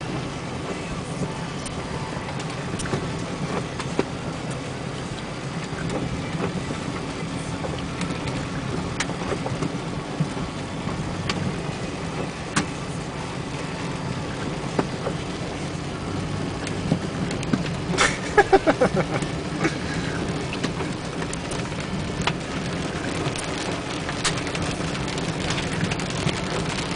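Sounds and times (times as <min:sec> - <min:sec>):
tyre noise on wet dirt road: 0:00.0 - 0:26.9
vehicle engine drone: 0:00.0 - 0:26.9.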